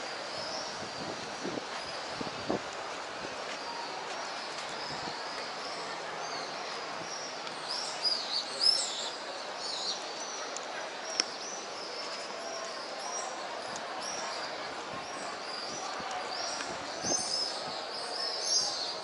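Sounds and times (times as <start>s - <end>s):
open-air background noise: 0.0s - 19.0s.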